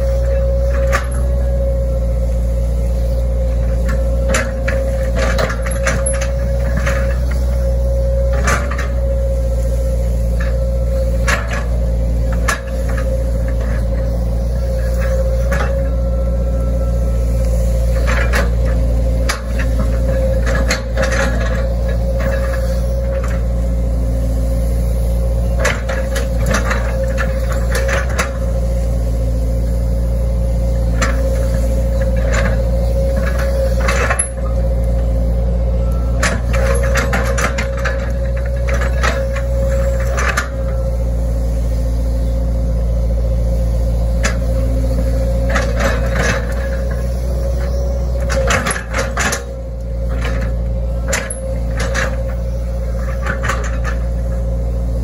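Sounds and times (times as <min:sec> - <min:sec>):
constant engine tone: 0:00.0 - 0:55.0
excavator diesel engine running: 0:00.0 - 0:55.0.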